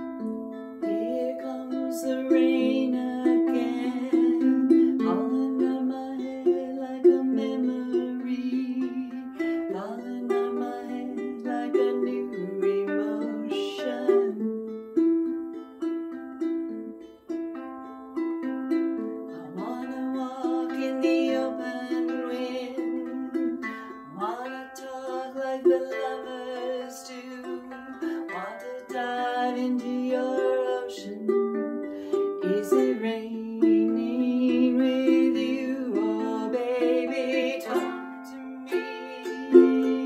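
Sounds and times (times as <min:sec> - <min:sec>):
ukulele fingerpicking: 0:00.0 - 0:40.0.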